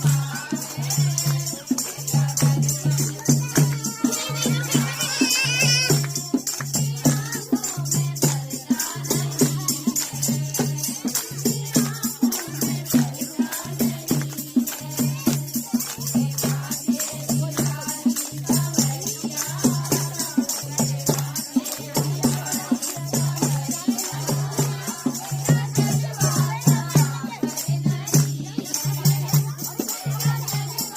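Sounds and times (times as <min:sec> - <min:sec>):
devotional music with drum beat: 0:00.0 - 0:30.9
jingling hand percussion: 0:00.0 - 0:30.9
people singing: 0:00.0 - 0:30.9.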